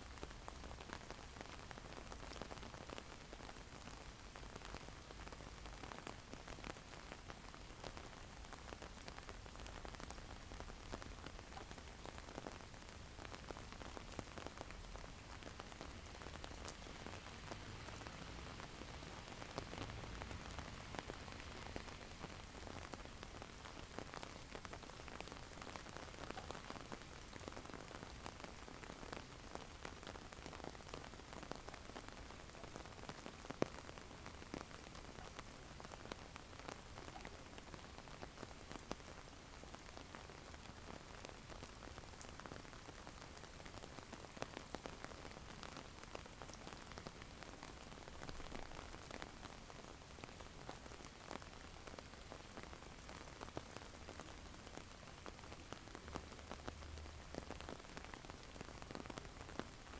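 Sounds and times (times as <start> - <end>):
rain drops ticking: 0.0 - 59.9
rain hissing on snow: 0.0 - 59.9.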